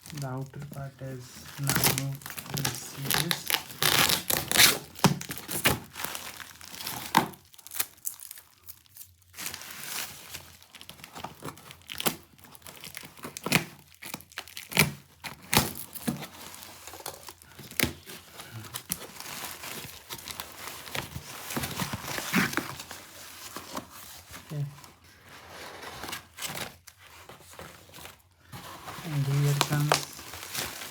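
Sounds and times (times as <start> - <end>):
packaging crinkling and tearing: 0.0 - 30.9.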